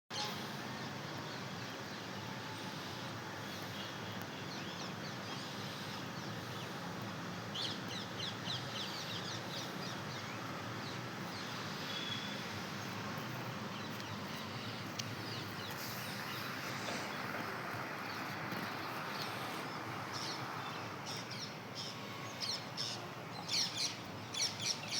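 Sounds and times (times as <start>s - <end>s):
background noise hiss: 0.1s - 24.9s.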